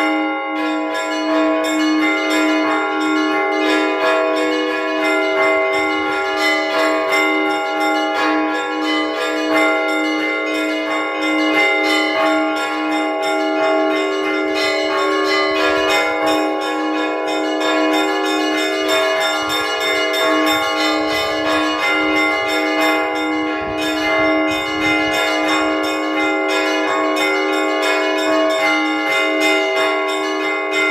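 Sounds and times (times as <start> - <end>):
higher church bells chiming: 0.0 - 30.9
low bell struck steadily: 0.0 - 30.9.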